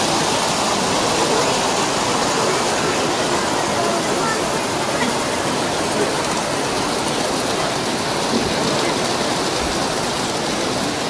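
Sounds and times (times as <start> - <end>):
many voices: 0.0 - 11.0.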